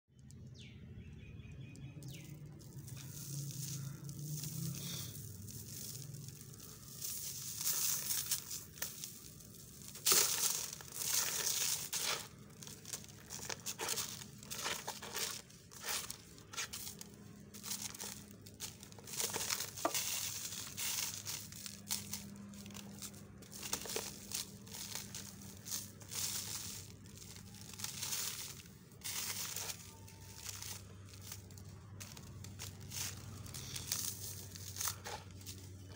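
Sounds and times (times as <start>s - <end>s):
crumbs trickling onto paper: 1.7s - 35.9s
paper crinkling: 2.0s - 35.9s.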